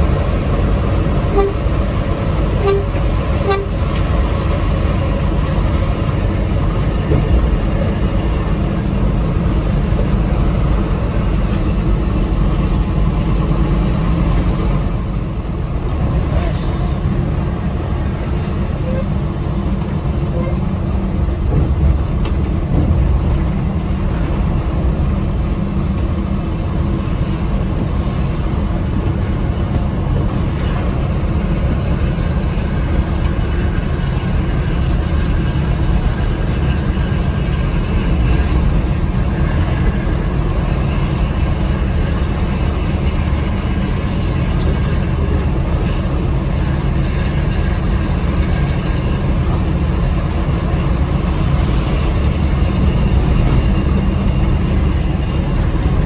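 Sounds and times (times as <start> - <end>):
diesel coach engine rumble: 0.0 - 56.0.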